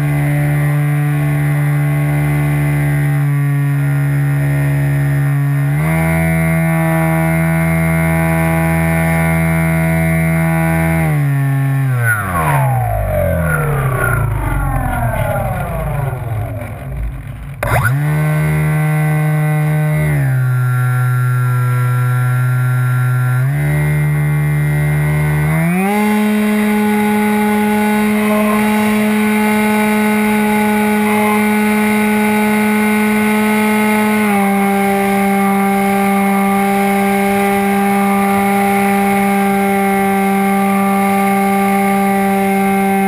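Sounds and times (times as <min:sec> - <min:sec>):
model plane motor whine: 0:00.0 - 0:43.0.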